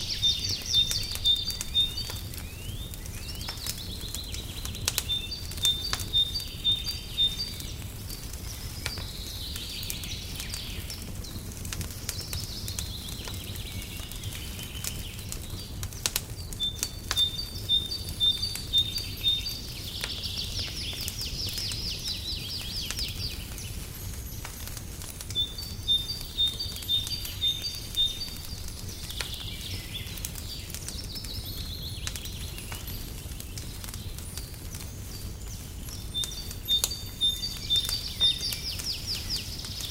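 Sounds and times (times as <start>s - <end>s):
songbird singing: 0.0s - 39.9s
wood fire crackling: 0.0s - 39.9s.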